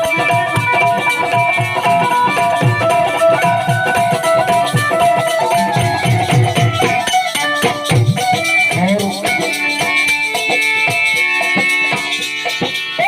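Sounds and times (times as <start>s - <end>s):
hand drums rhythm: 0.0s - 13.0s
melody instrument playing: 1.2s - 12.2s.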